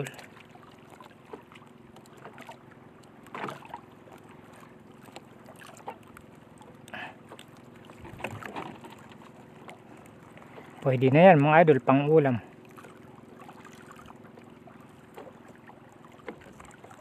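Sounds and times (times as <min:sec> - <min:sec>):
water washing around boat: 0:00.0 - 0:17.0
wind: 0:00.0 - 0:17.0.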